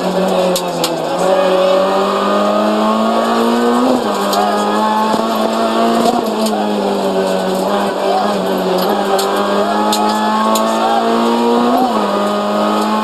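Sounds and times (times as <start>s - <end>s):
car engine accelerating: 0.0s - 13.0s
gear upshift: 0.0s - 13.0s.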